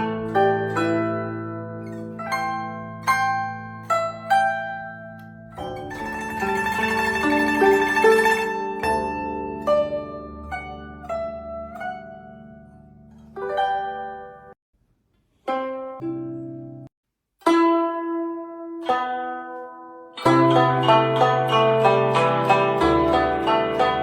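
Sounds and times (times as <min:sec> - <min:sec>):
plucked zither music: 0:00.0 - 0:14.6, 0:15.4 - 0:24.0.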